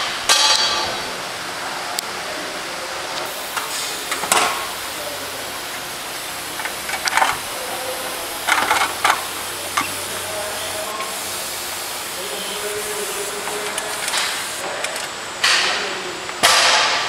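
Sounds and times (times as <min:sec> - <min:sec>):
workshop hiss: 0:00.0 - 0:17.0.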